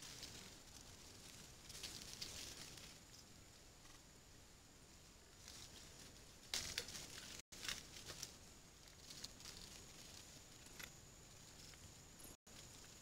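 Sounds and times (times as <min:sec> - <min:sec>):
crackling in dry leaf litter: 0:00.0 - 0:03.3, 0:05.3 - 0:13.0.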